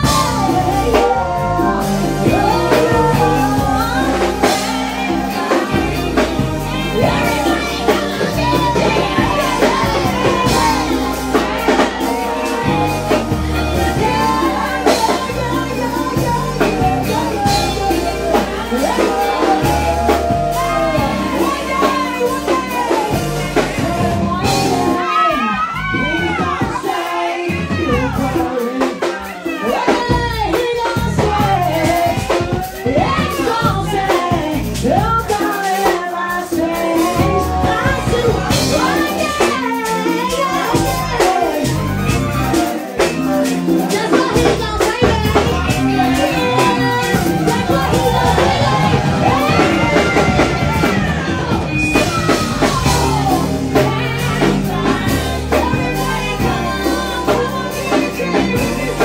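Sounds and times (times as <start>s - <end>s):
live band playing: 0.0s - 59.0s
person singing: 0.0s - 59.0s.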